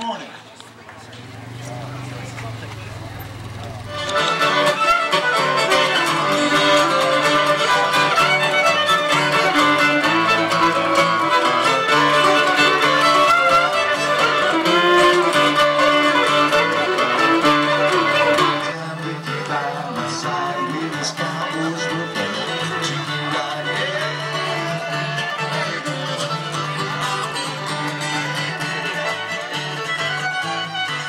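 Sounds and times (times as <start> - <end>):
acoustic guitar accompaniment: 0.9 - 31.0
fiddle playing a tune: 1.7 - 31.0.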